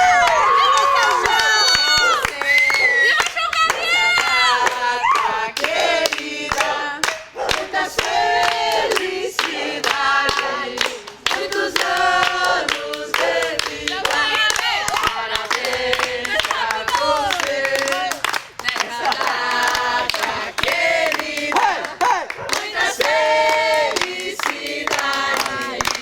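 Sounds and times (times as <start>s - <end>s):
people clapping: 0.0s - 26.0s
group of people singing: 0.9s - 26.0s.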